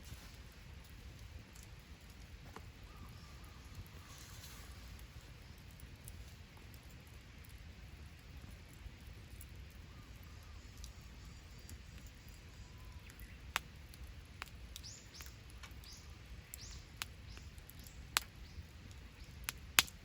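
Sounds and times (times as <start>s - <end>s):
campfire crackling with pops: 0.0s - 20.0s.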